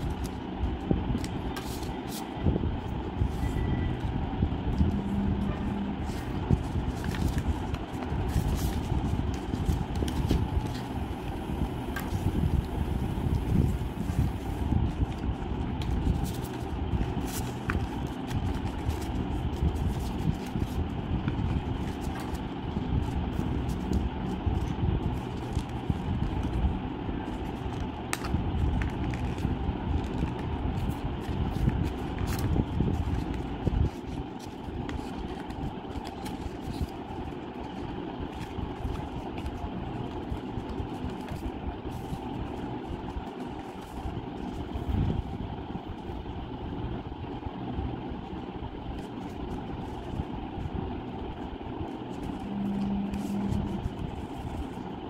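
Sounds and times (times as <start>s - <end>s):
paper rustling and creasing: 0.0s - 46.4s, 48.1s - 55.0s
low background rumble: 0.0s - 55.0s.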